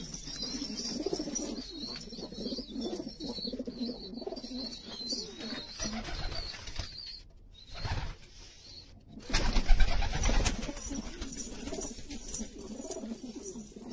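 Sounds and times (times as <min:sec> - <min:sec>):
pigeons cooing: 0:00.0 - 0:06.6, 0:09.2 - 0:13.9.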